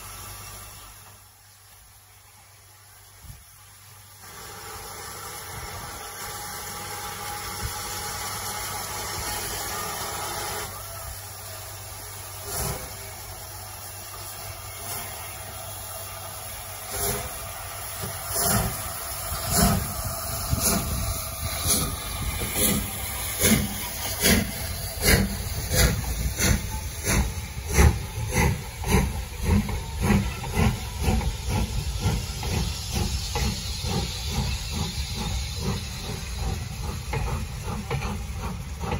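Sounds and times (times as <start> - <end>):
steam locomotive hissing: 0.0 - 38.9
locomotive exhaust chuffs: 3.0 - 38.9.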